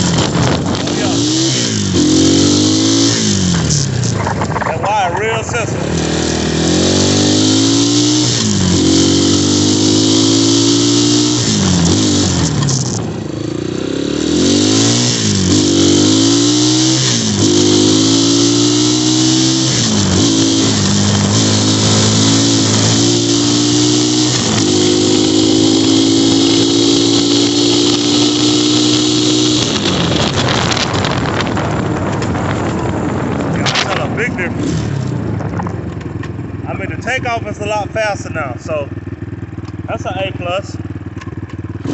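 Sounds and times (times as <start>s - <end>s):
wind rushing over microphone: 0.0s - 13.2s, 14.0s - 37.9s
dirt bike engine accelerating: 0.0s - 41.9s.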